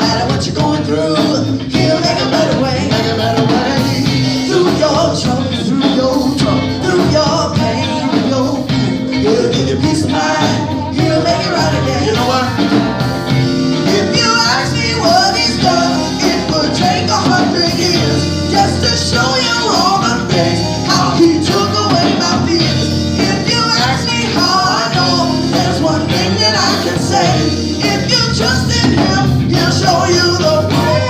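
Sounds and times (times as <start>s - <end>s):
upbeat gospel band music: 0.0s - 31.0s.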